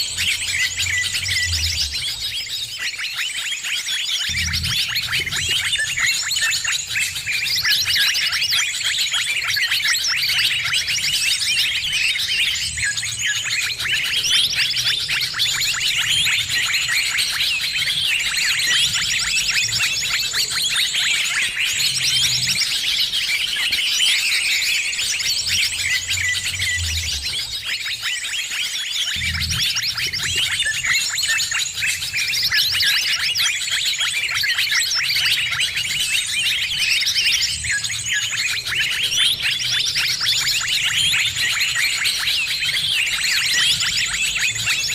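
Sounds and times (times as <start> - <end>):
small birds chirping and twittering: 0.0 - 44.9.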